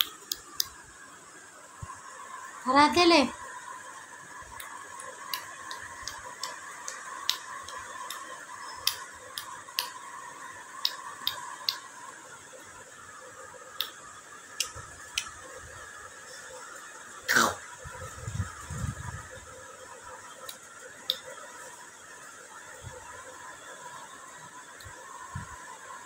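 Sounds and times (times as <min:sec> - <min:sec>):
faint steady background tone: 0:00.0 - 0:26.0.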